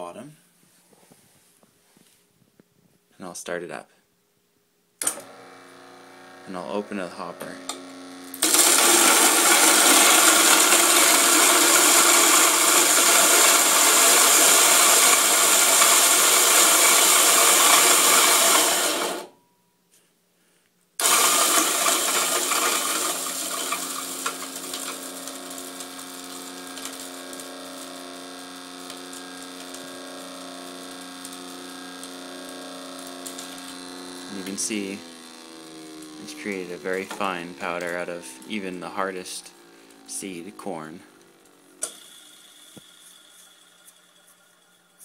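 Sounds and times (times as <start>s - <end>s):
coffee grinder grinding kernels: 5.0s - 19.4s, 21.0s - 45.0s
grinder motor humming: 5.0s - 19.4s, 21.0s - 45.0s.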